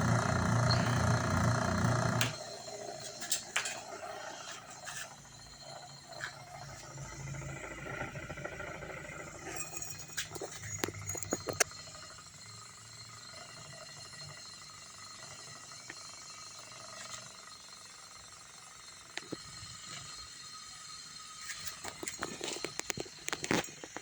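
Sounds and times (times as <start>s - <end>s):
small electric motor humming: 0.0s - 24.0s.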